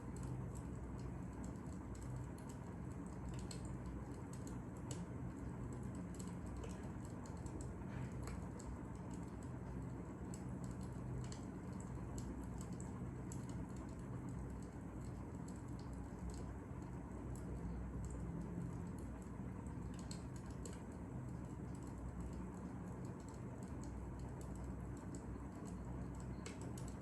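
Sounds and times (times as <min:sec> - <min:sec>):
steady low hum: 0:00.0 - 0:27.0
wood fire crackling: 0:00.1 - 0:27.0.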